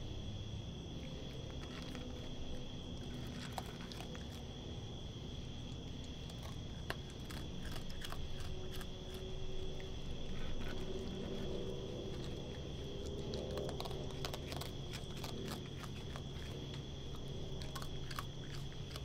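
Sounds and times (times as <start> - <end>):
animal crunching dry kibble: 0.8 - 19.0.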